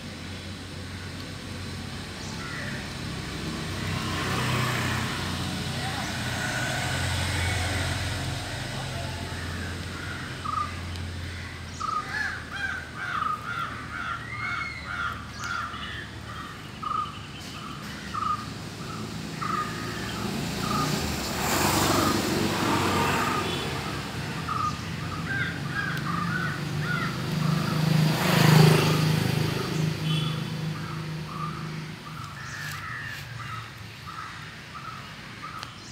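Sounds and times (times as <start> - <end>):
passing vehicle noise: 0.0 - 35.9.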